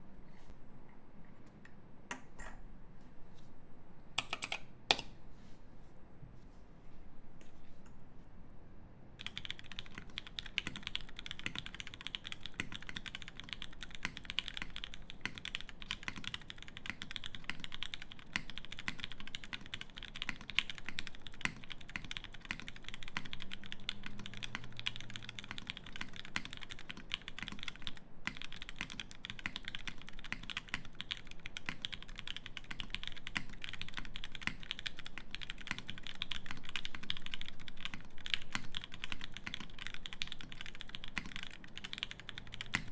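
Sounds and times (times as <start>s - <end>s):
mechanical keyboard typing: 4.2s - 5.1s, 9.2s - 42.9s.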